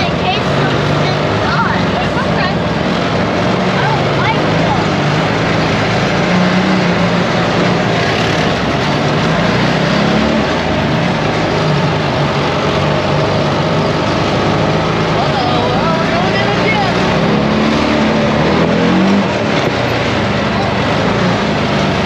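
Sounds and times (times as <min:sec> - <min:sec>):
atv engine running: 0:00.0 - 0:22.0
loud rushing noise: 0:00.0 - 0:22.0.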